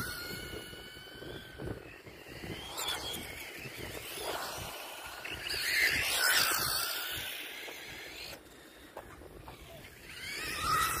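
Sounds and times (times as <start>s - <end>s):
toy car motor whine: 0.0s - 11.0s.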